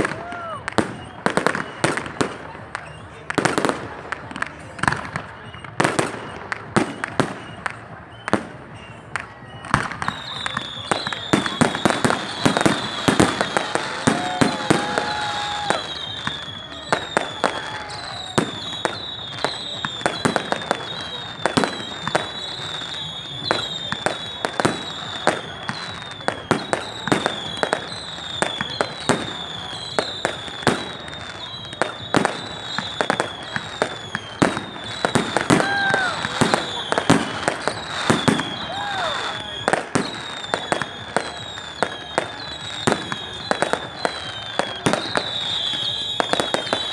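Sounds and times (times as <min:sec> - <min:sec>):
fireworks crackling: 0:00.0 - 0:46.9
fireworks sharp bangs: 0:00.0 - 0:46.9
falling whistles: 0:00.6 - 0:02.2, 0:05.1 - 0:46.9.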